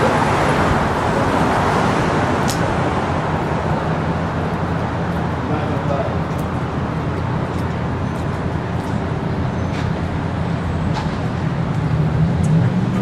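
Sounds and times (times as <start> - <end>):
road noise: 0.0 - 13.0
vehicle engines humming: 0.0 - 13.0.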